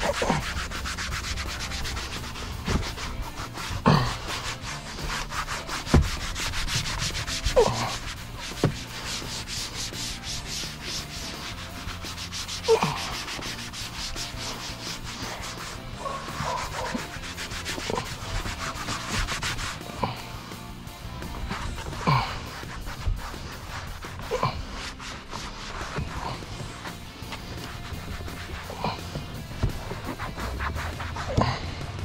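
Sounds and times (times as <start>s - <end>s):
stiff brush scrubbing: 0.0s - 32.0s.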